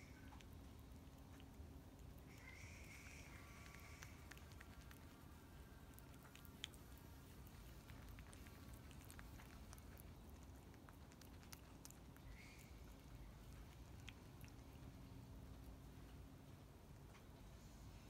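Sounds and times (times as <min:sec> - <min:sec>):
possum chewing bread: 0:00.0 - 0:17.0.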